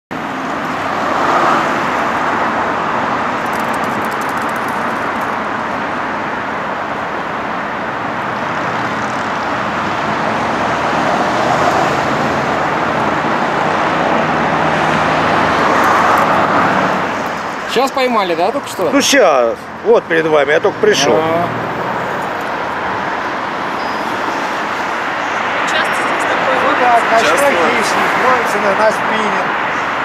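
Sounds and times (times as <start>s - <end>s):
cars passing on busy road: 0.1s - 30.0s.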